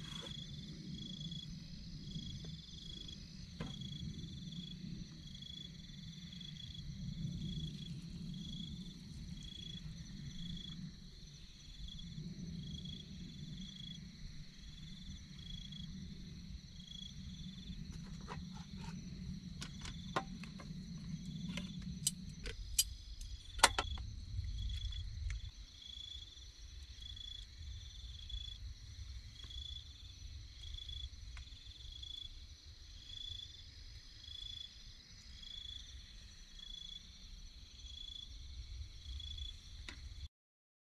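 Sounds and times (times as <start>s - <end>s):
pulsed insect chirp: 0.0s - 40.2s.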